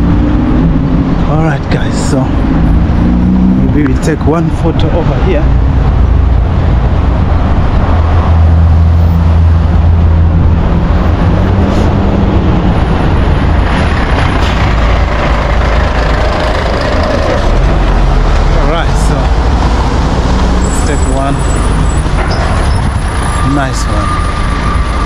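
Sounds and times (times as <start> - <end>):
heavy vehicle engine rumbling: 0.0 - 25.0.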